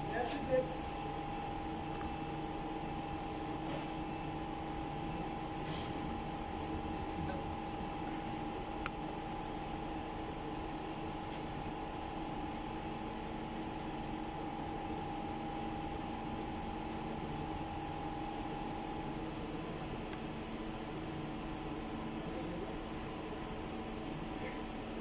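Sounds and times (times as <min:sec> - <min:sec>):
machine hum with hiss: 0:00.0 - 0:25.0.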